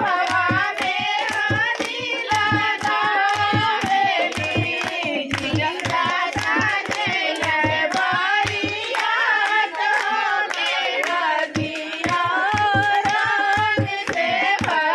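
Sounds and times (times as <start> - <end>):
hand drum beats: 0.0 - 9.3, 11.6 - 14.9
hand clapping: 0.0 - 14.9
women singing folk song: 0.0 - 14.9.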